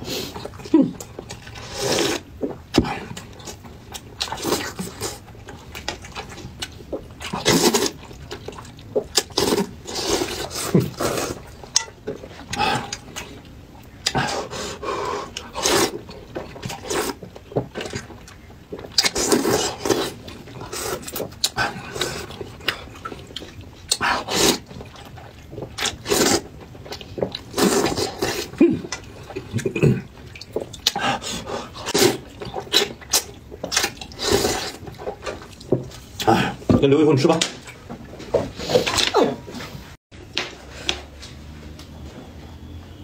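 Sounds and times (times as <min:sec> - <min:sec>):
noodles being slurped: 0:00.0 - 0:13.4, 0:14.0 - 0:36.7.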